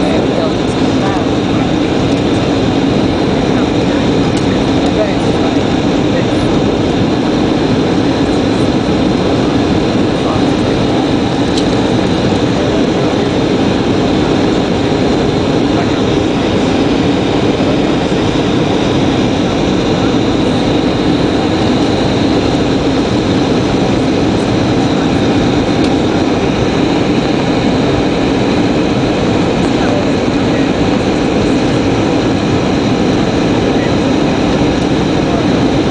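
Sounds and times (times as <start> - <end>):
airliner cabin rushing hum: 0.0 - 35.9.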